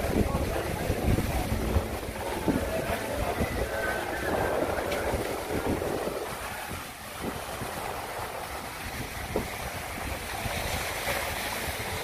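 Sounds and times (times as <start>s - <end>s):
small waves on beach: 0.0s - 12.0s
wind buffeting microphone: 0.0s - 12.0s.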